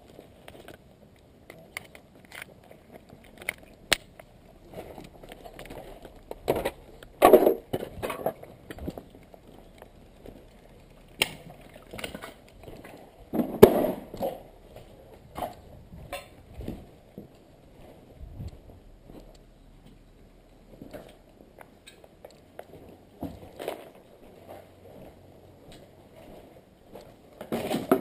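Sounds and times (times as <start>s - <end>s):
footsteps crunching over rubble: 0.0s - 28.0s.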